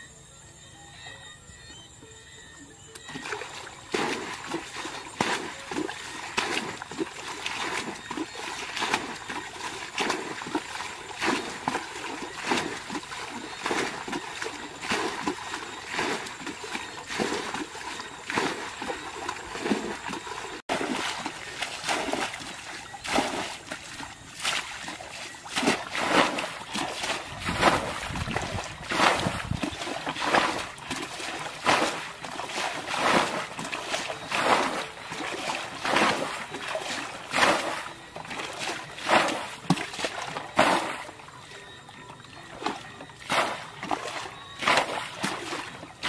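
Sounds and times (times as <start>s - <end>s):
water splashing from bucket: 3.0s - 46.0s.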